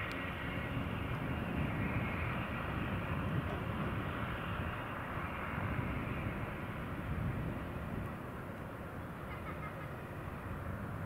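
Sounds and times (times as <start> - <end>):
turboprop engine droning: 0.0 - 11.0.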